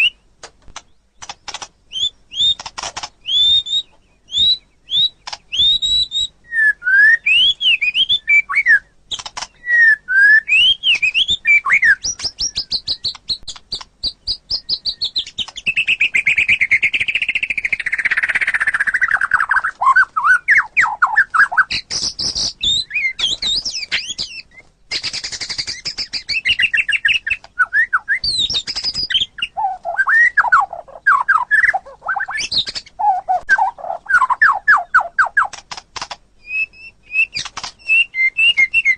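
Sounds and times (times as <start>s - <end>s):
bird singing whistled notes and trills: 0.0s - 38.9s.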